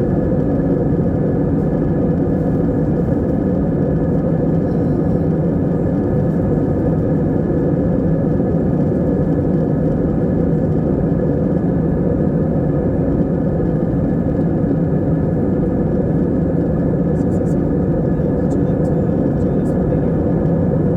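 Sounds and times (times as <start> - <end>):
airplane cabin engine rumble: 0.0 - 20.9.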